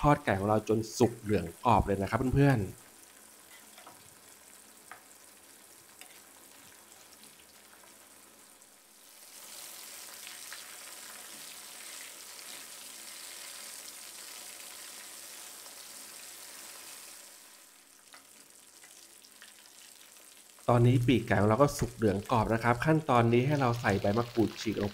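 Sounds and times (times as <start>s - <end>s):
chicken wings sizzling in oil: 1.2s - 24.9s.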